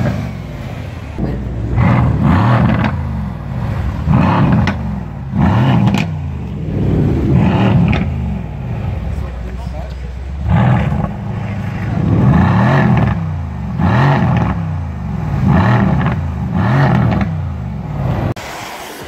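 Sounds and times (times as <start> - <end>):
car engine revving: 0.0 - 18.7.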